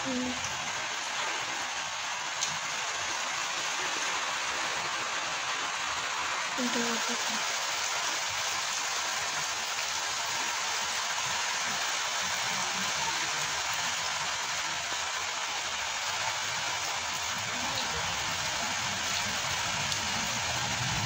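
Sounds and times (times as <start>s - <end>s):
rain falling on water: 0.0s - 21.0s.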